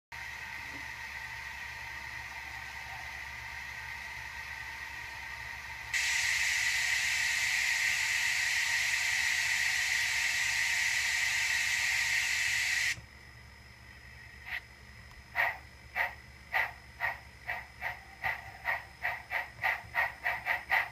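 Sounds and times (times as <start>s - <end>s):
model locomotive steam hiss: 0.2s - 13.0s, 15.3s - 20.9s.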